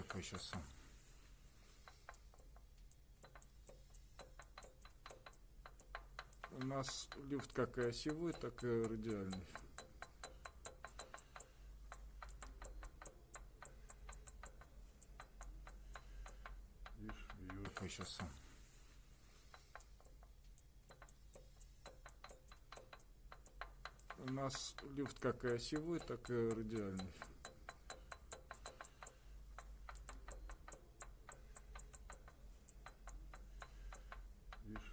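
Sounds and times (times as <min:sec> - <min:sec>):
gear knocking: 0:02.0 - 0:18.4, 0:19.8 - 0:34.9.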